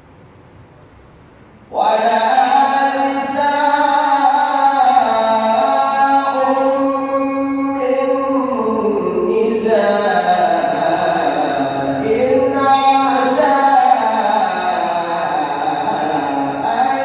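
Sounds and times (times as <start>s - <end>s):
man chanting melodically: 1.7s - 17.0s.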